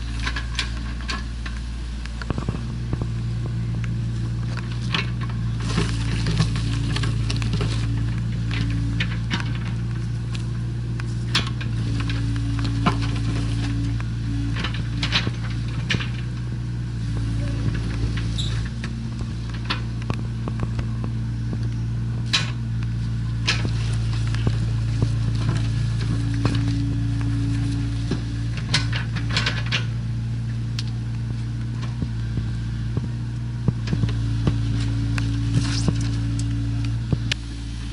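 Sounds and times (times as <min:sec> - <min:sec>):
excavator diesel engine running: 0:00.0 - 0:37.9
higher hum: 0:00.0 - 0:37.9
bucket clanking scraping soil: 0:04.2 - 0:20.0, 0:22.2 - 0:30.8, 0:31.4 - 0:37.9.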